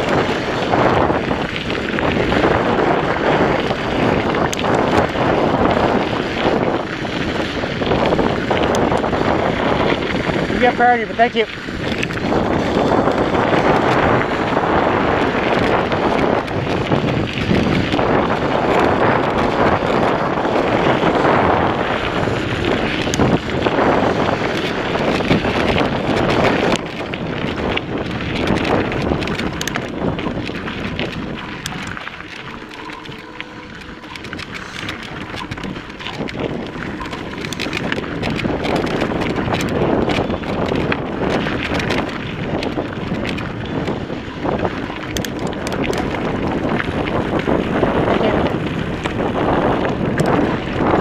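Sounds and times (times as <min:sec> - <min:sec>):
bike clicks and rattles: 0:00.0 - 0:51.0
wind buffeting microphone: 0:00.0 - 0:51.0.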